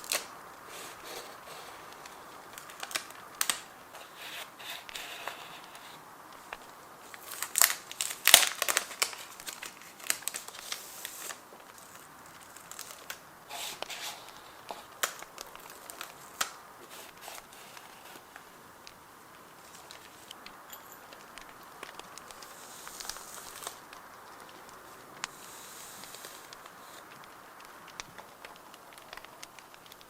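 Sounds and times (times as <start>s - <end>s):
paper crinkling and rustling: 0.0s - 30.0s
small taps and crackles: 0.0s - 30.0s.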